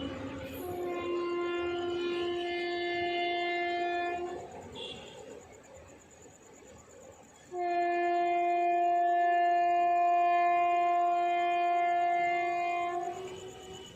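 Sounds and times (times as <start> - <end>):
locomotive horn blast: 0.0 - 5.4, 7.5 - 13.9.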